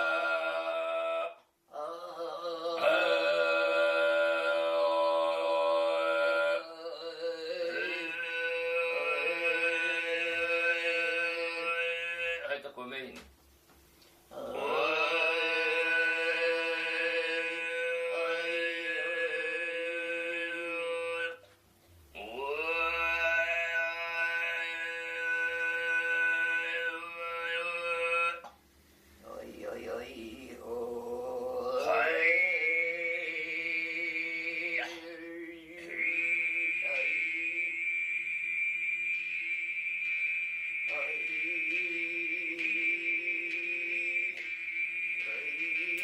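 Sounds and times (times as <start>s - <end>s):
throat singing drone: 0.0s - 12.7s, 14.3s - 46.0s.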